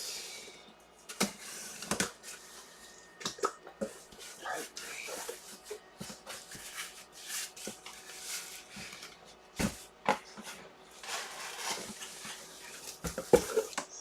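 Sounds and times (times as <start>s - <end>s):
cardboard and plastic packaging rustling: 1.0s - 14.0s.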